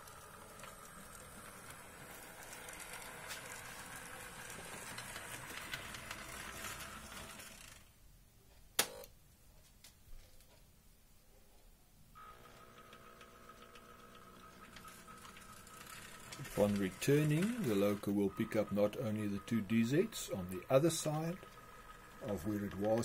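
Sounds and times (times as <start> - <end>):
model locomotive whirring: 0.0 - 7.9, 12.2 - 23.0.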